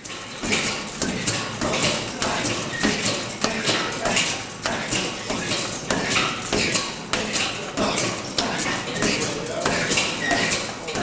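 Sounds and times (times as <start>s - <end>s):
hard breathing: 0.2s - 11.0s.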